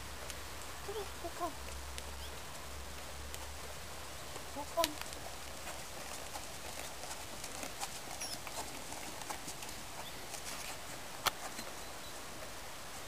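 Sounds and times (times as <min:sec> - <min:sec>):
hooves and tack clicking: 0:00.0 - 0:13.0
hooves on sand: 0:00.1 - 0:13.0.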